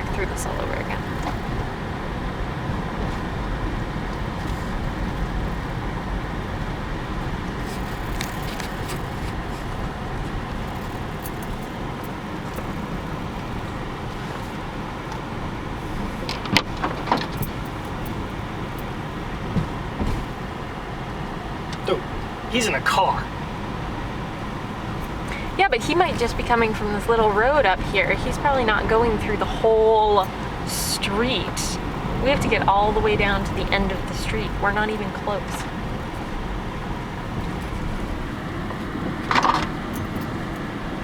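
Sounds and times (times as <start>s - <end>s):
car engine and tyres rumbling: 0.0s - 41.0s.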